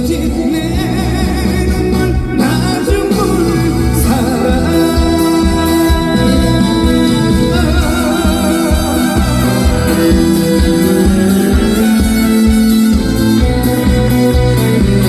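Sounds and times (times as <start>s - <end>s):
instrumental band music: 0.0s - 15.0s.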